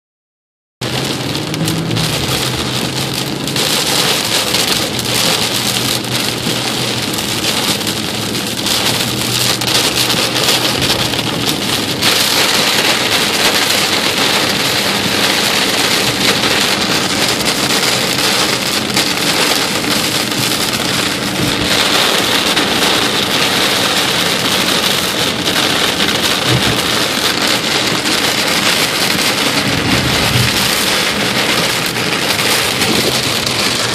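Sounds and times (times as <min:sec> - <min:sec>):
heavy rain on car roof: 0:00.8 - 0:33.9.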